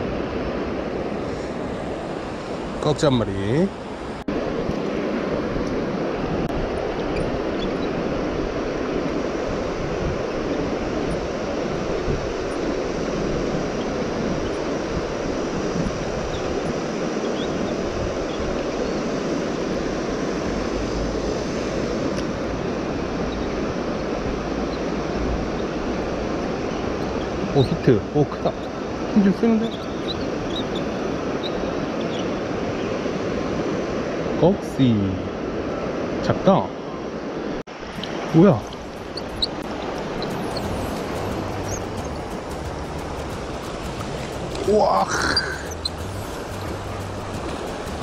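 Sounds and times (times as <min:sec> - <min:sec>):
river rushing over stones: 0:00.0 - 0:48.0.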